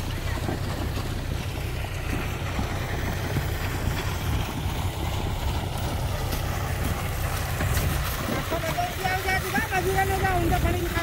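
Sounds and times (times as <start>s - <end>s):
tractor engine running: 0.0s - 11.0s
wind noise on microphone: 0.0s - 11.0s.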